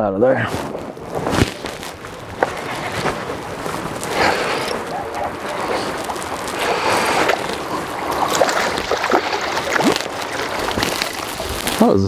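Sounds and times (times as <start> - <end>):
choppy water sloshing: 0.5 - 12.0
fish splashing and thrashing: 0.6 - 12.0.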